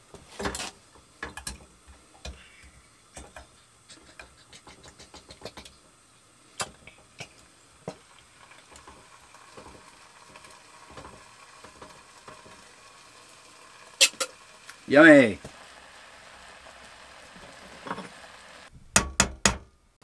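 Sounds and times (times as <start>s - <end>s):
stew sizzling in pan: 0.0s - 18.7s.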